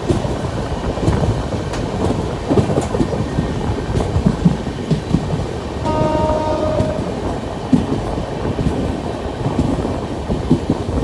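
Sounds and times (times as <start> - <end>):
clacks over rail joints: 0.0 - 11.0
train wheels rumbling on rail: 0.0 - 11.0.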